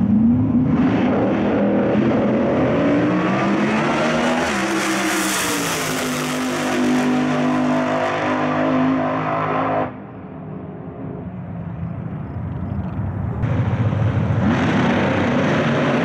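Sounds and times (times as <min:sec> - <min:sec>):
drag racing engines accelerating: 0:00.0 - 0:16.0.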